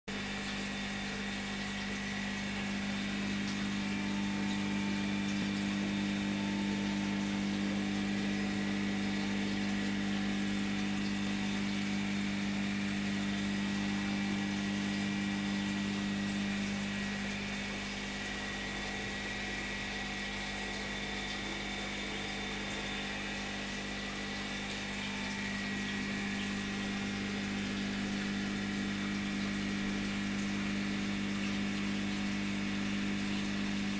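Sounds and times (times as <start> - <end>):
aquarium pump humming: 0.1 - 33.9
circulating water rushing: 0.1 - 33.9.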